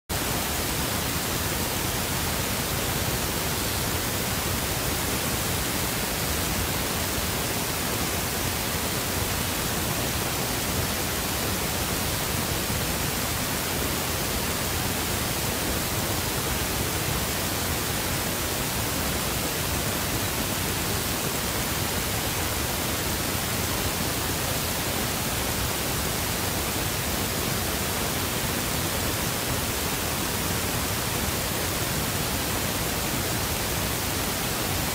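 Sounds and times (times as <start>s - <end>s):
steady static hiss: 0.1s - 34.9s.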